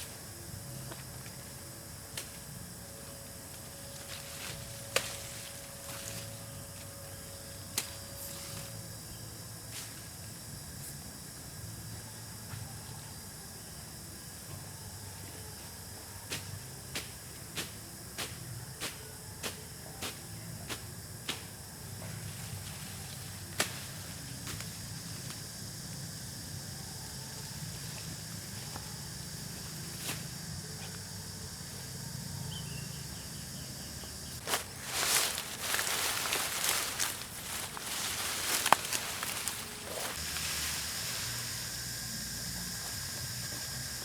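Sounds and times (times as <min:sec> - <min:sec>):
steady high hiss: 0:00.0 - 0:44.0.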